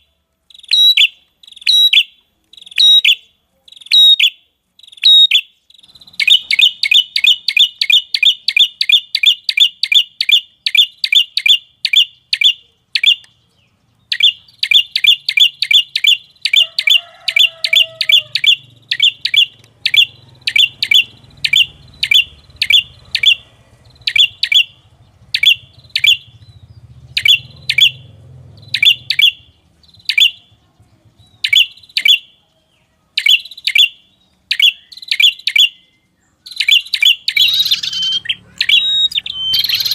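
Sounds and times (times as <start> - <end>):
bird call sharp downward chirps: 0.0 - 39.9.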